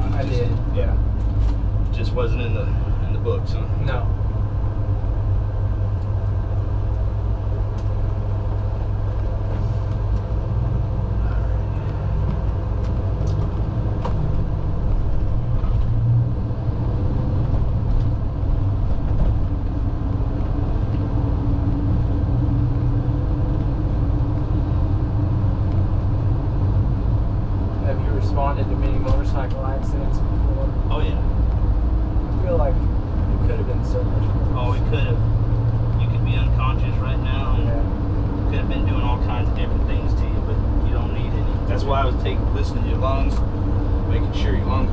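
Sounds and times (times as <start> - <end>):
engine and road rumble: 0.0 - 44.9.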